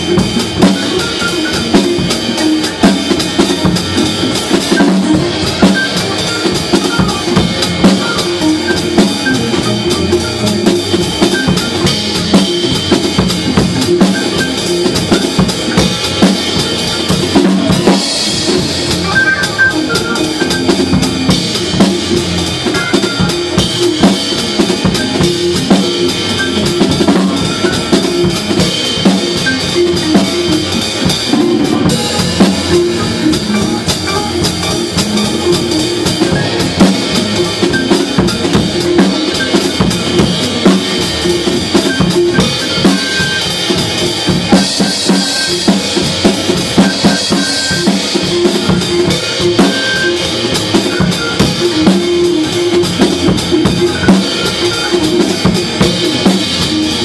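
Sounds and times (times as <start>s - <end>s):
drum kit groove: 0.0s - 57.0s.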